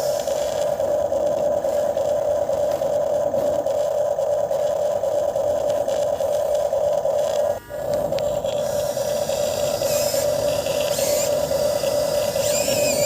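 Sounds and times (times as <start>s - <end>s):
small electric motor buzzing: 0.0s - 13.0s.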